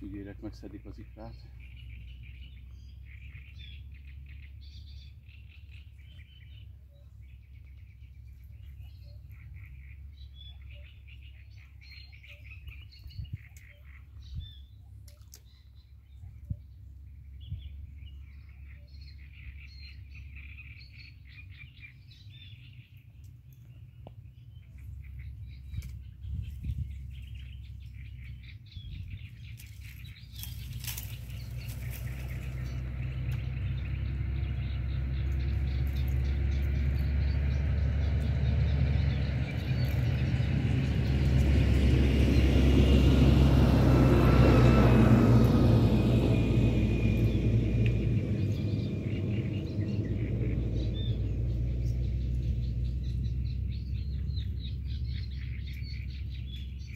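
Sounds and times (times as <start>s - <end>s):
approaching motor rumble: 0.0s - 56.9s
low background rumble: 0.0s - 56.9s
small birds chirping: 0.0s - 56.9s.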